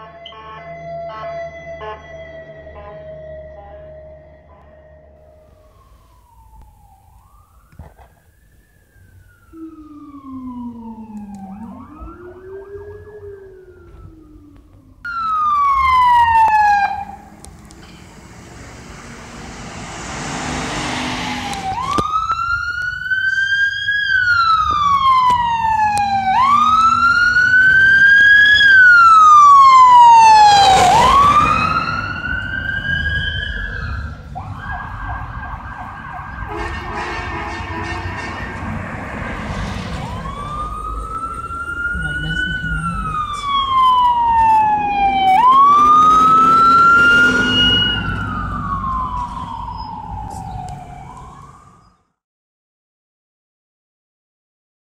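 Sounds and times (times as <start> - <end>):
ambulance siren wailing: 0.0 - 52.2
steady siren tone: 0.0 - 52.2.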